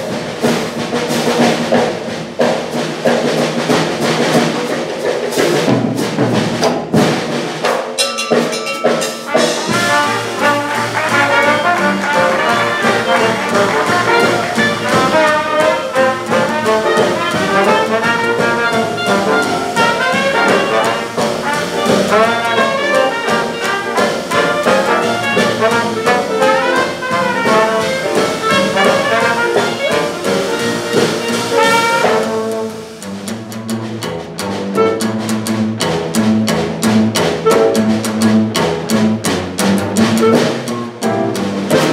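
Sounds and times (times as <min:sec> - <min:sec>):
drum strokes: 0:00.0 - 0:41.9
jazz band playing: 0:00.0 - 0:41.9.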